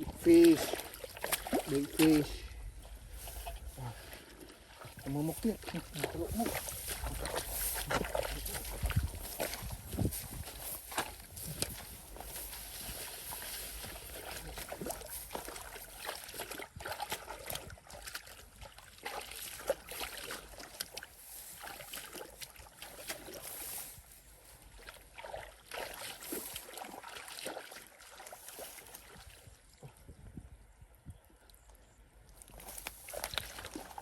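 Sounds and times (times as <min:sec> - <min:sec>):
splashing in shallow muddy water: 0:00.0 - 0:34.0.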